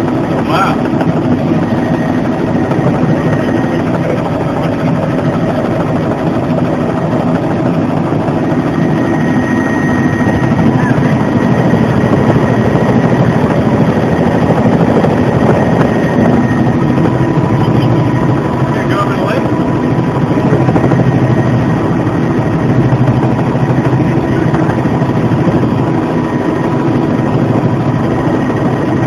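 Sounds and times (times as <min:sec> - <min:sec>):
helicopter drone from cabin: 0:00.0 - 0:29.0.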